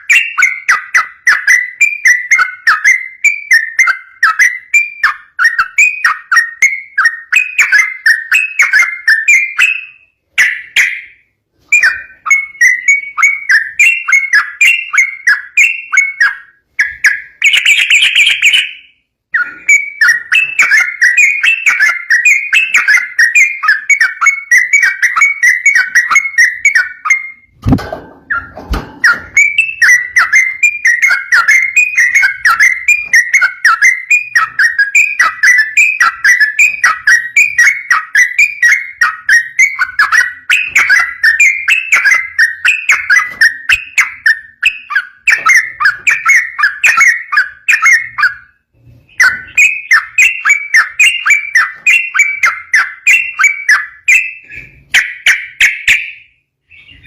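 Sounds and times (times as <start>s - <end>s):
bird chattering song: 0.0s - 27.6s, 28.2s - 57.0s.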